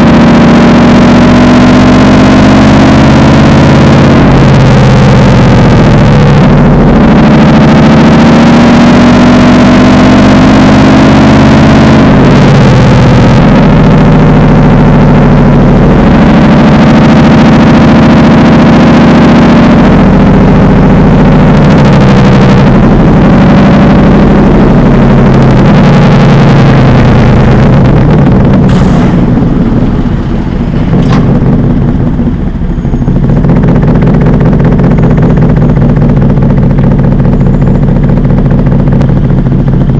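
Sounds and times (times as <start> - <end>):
car engine revving loudly: 0.0 - 39.9.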